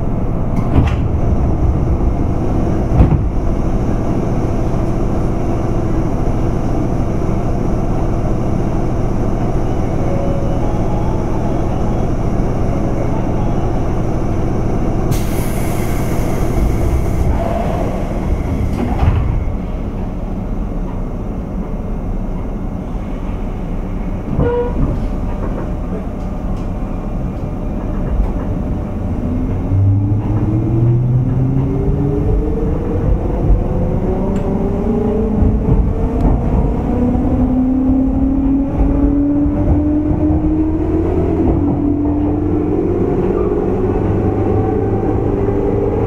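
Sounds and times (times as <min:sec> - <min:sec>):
train rumbling on rails: 0:00.0 - 0:46.0.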